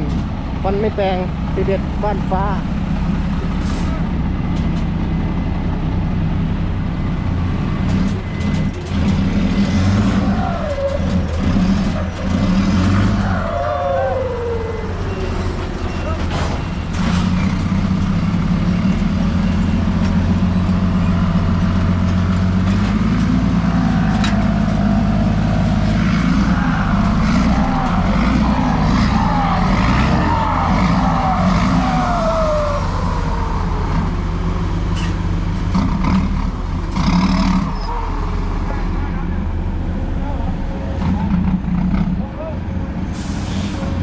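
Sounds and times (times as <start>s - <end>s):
heavy truck engine running: 0.0s - 44.0s.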